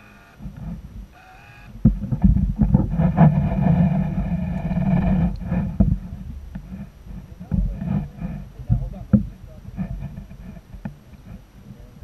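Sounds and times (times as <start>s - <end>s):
muffled underwater motor hum: 0.0s - 12.0s.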